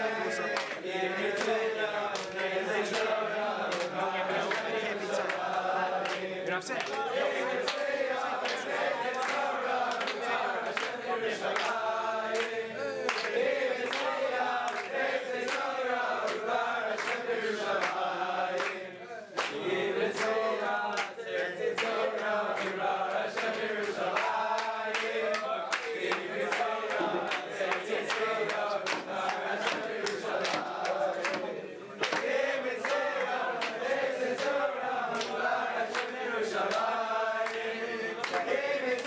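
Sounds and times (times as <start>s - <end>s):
men singing in unison: 0.0s - 39.0s.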